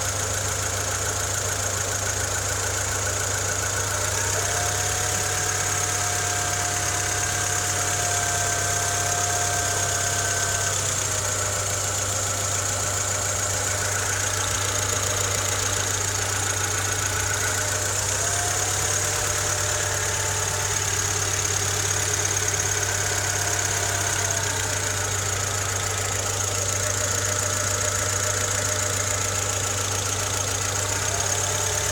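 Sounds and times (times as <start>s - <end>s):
car engine idling with knock: 0.0s - 31.9s.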